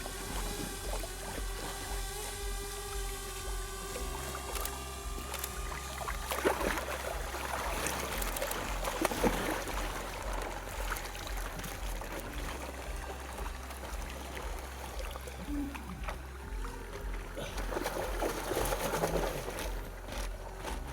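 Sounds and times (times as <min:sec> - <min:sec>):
low pulsing drone: 0:00.0 - 0:20.9
water splashing and sloshing: 0:00.0 - 0:20.9.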